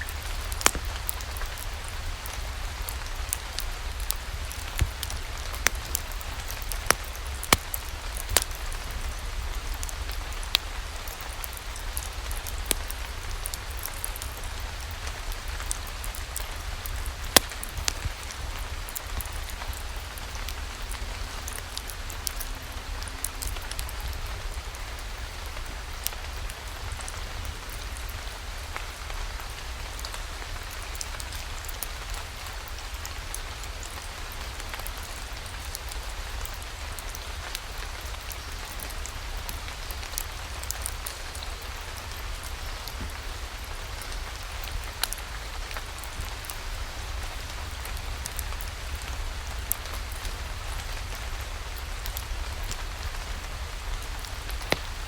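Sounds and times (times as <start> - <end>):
steady rain falling: 0.0 - 55.0
ticks of single raindrops: 0.0 - 55.0.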